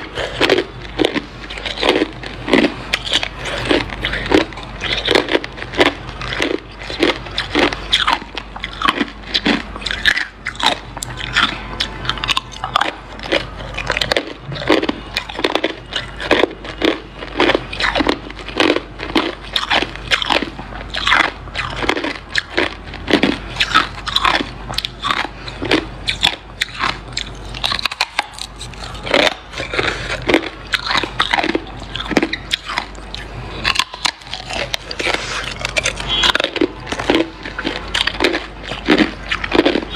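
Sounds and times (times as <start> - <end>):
faint steady hum: 0.0 - 39.9
ice being chewed: 0.0 - 39.9.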